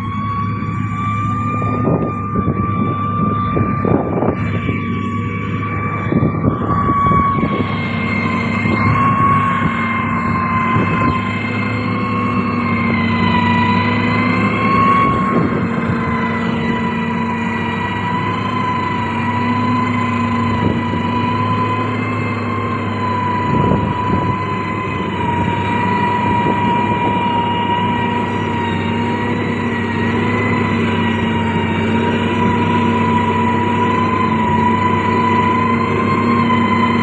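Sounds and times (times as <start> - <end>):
high whine: 0.0 - 37.0
machine engine drone: 0.0 - 37.0.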